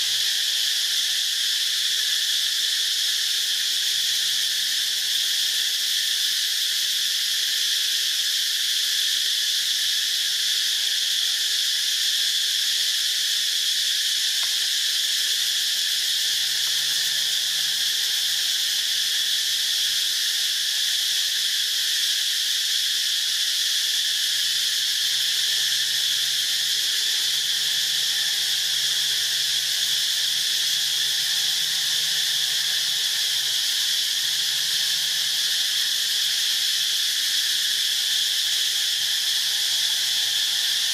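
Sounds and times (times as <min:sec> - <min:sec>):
insect chorus buzzing: 0:00.0 - 0:40.9.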